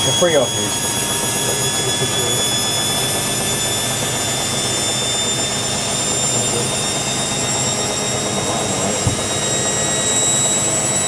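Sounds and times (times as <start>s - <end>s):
washer dryer running: 0.0s - 11.0s.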